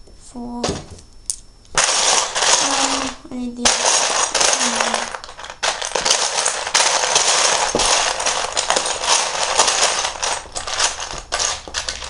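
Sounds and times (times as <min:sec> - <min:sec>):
plastic bricks clattering: 0:01.8 - 0:12.0.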